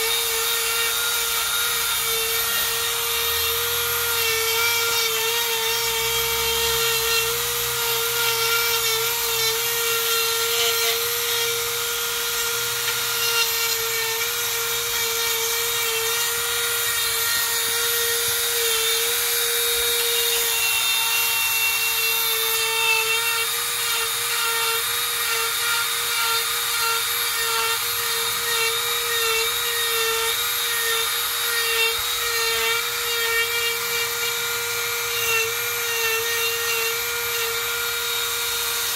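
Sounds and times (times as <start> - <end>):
rotary tool grinding wood: 0.0 - 38.9.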